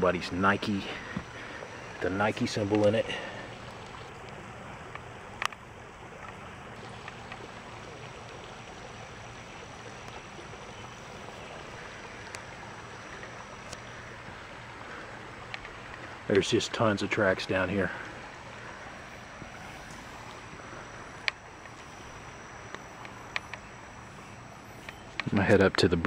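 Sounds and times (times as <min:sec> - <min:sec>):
shallow stream flowing: 0:00.0 - 0:26.0.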